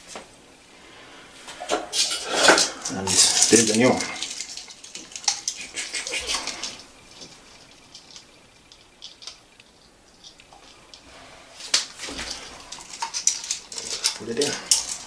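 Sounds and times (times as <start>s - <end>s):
plastic toilet parts clicking: 1.5s - 15.0s.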